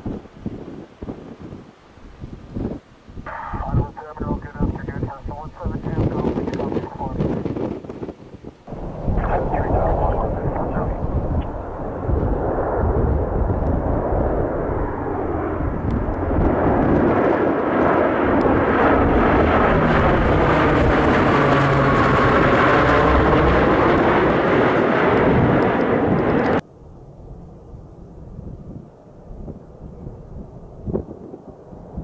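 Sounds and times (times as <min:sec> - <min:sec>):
turboprop aircraft drone overhead: 0:00.0 - 0:32.0.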